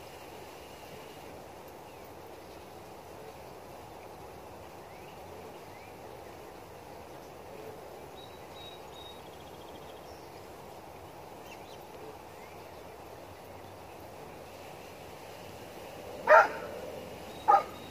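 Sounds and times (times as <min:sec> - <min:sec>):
outdoor background noise: 0:00.0 - 0:17.9.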